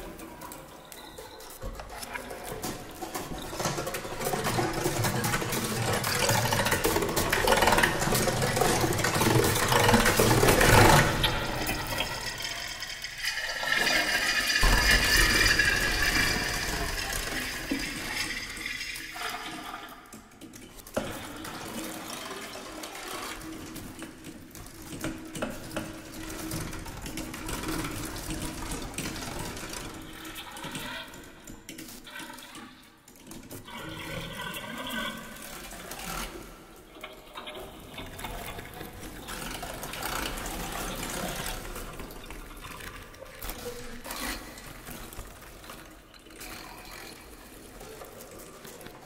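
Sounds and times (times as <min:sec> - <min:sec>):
water rushing and flushing: 0:00.0 - 0:49.0
water trickling: 0:00.0 - 0:49.0.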